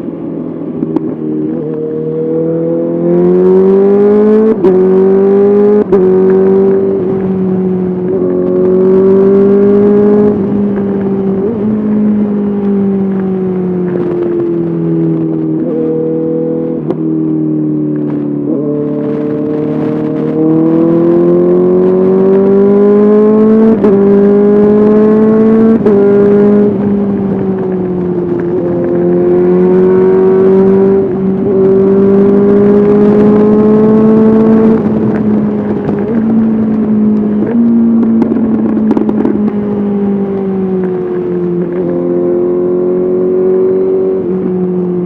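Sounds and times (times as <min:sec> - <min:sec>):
motorcycle engine revving and shifting: 0:00.0 - 0:45.0.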